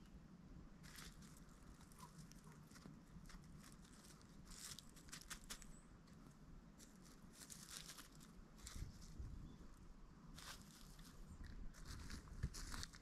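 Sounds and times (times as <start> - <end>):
footsteps on forest floor: 0.8 - 9.2, 10.4 - 13.0.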